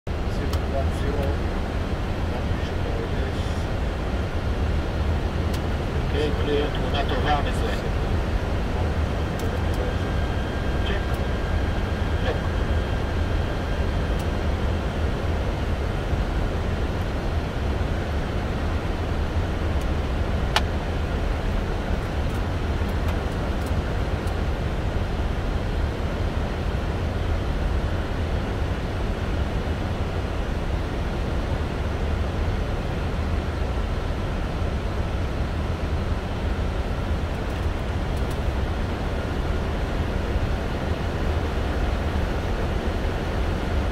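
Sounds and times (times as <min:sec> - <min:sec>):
aircraft cockpit rumble: 0:00.1 - 0:43.9.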